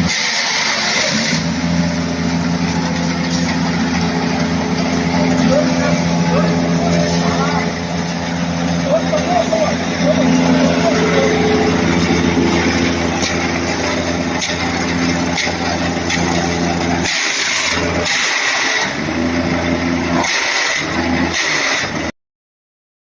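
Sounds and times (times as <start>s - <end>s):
harsh shredding noise: 0.0s - 22.1s
small gasoline engine running: 0.0s - 22.1s.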